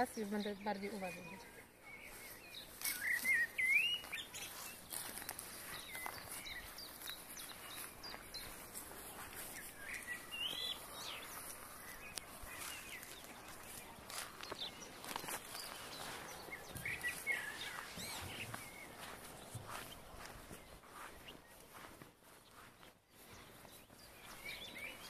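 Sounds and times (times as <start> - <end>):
footsteps on damp grass: 0.0 - 25.0
songbirds chirping and whistling: 0.0 - 25.0.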